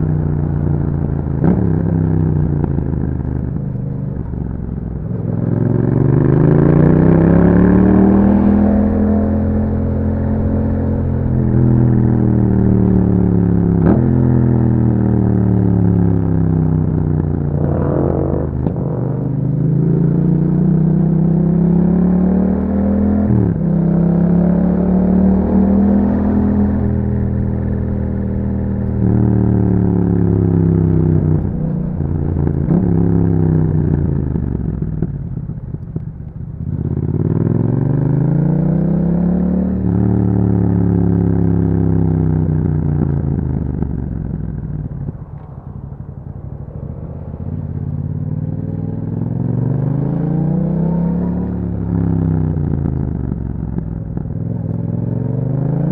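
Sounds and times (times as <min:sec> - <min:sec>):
motorcycle accelerating with upshifts: 0:00.0 - 0:55.9.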